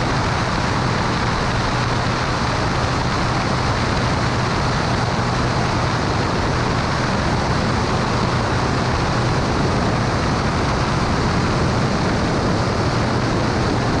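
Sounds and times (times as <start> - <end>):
propeller plane engine drone: 0.0 - 14.0
rushing noise: 0.0 - 14.0.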